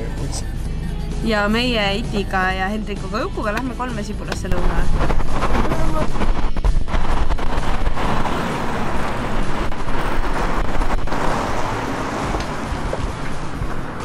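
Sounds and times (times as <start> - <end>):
road vehicles passing: 0.0 - 14.0.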